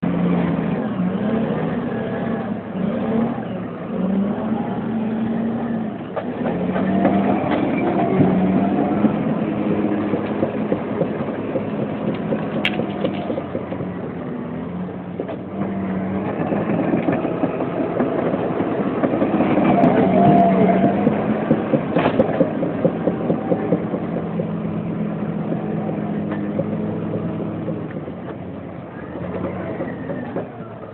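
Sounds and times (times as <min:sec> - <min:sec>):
machinery engine running: 0:00.0 - 0:30.9.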